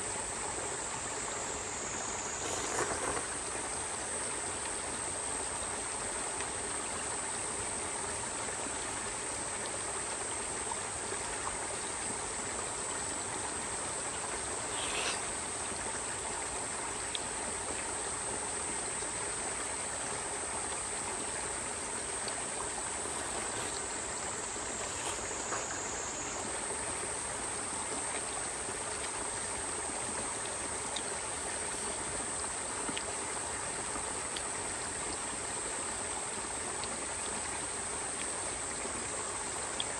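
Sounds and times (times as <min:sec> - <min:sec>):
flowing water rushing: 0:00.0 - 0:39.9
high insect drone: 0:00.0 - 0:39.9.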